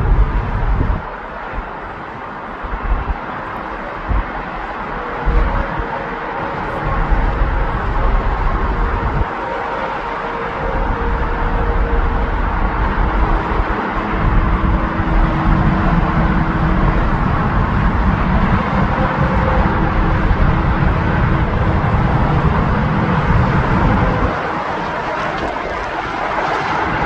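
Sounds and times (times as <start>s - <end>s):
high engine whine: 0.0s - 27.0s
jet engines rumbling: 0.0s - 27.0s.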